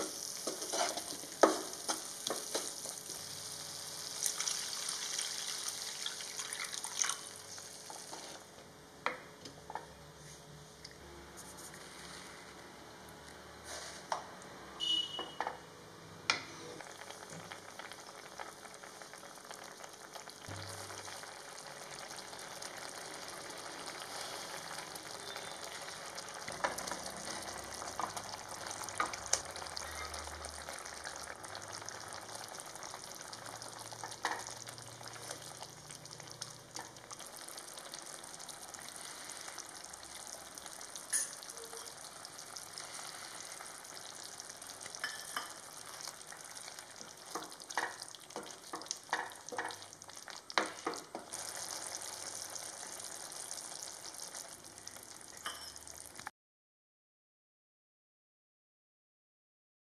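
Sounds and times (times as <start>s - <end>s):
gravy sizzling in a pan: 0.0s - 8.4s, 16.8s - 56.3s.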